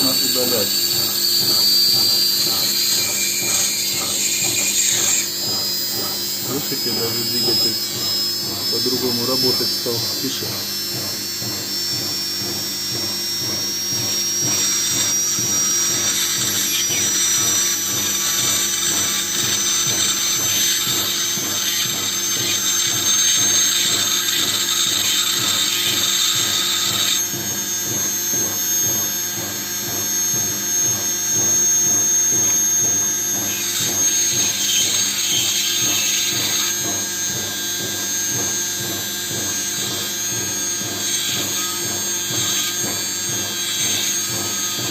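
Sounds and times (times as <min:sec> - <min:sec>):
electric motor spinning with whine: 0:00.0 - 0:44.9.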